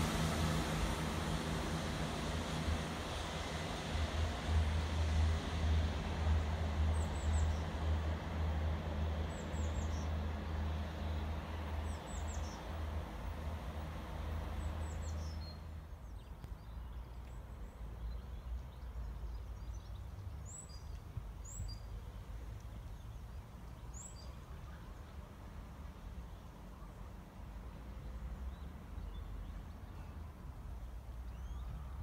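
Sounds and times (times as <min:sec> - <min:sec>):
low rumble and hiss: 0:00.0 - 0:32.0.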